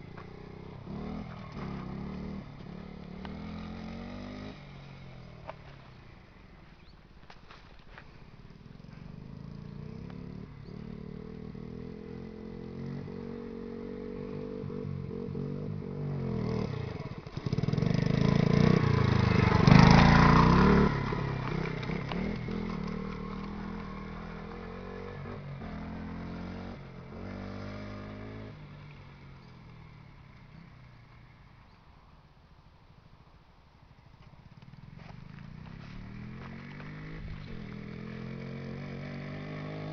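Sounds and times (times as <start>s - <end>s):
motorcycle engine passing by: 0.0s - 32.1s, 33.0s - 39.9s.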